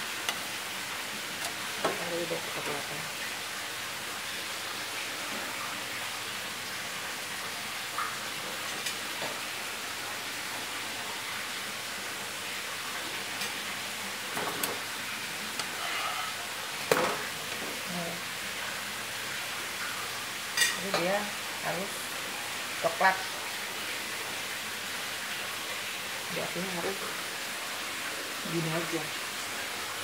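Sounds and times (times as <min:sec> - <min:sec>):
pancake batter sizzling in pan: 0:00.0 - 0:30.0.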